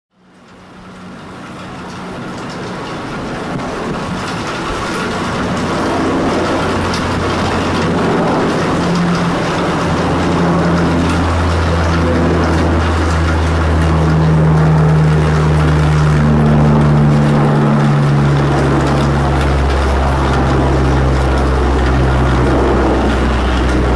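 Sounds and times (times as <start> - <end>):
turboprop aircraft droning overhead: 0.1 - 23.9.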